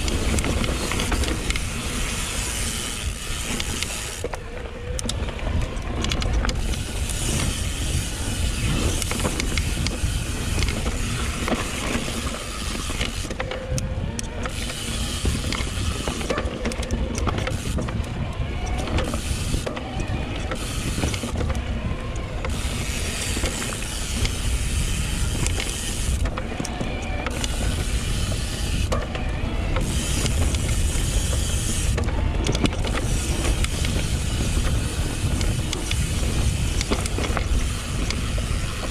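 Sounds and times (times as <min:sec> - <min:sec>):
tyres rolling over dirt: 0:00.0 - 0:38.9
wind on microphone: 0:00.0 - 0:38.9.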